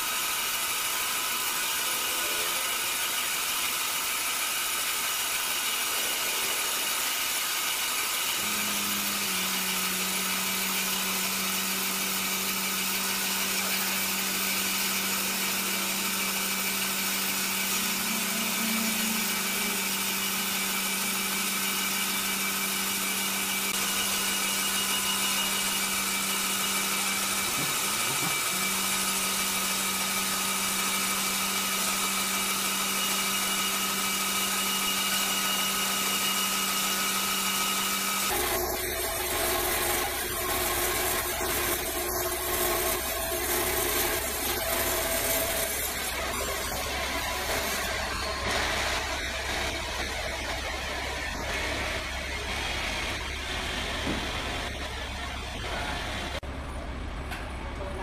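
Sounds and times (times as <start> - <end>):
band saw cutting wood: 0.0 - 56.5.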